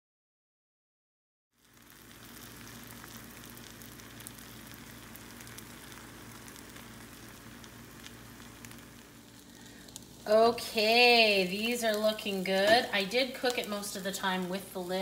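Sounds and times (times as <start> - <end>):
sandwiches sizzling in a skillet: 1.5 - 15.0.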